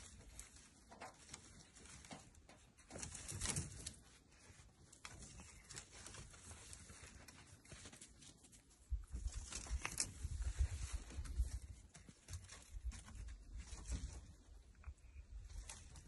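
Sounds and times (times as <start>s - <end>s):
faint rustling with crackles: 0.0s - 16.0s.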